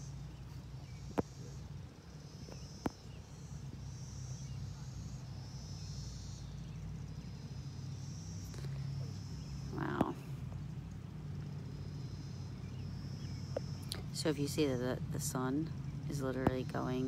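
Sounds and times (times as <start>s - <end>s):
insects trilling: 0.0s - 17.0s
low steady hum: 0.0s - 17.0s.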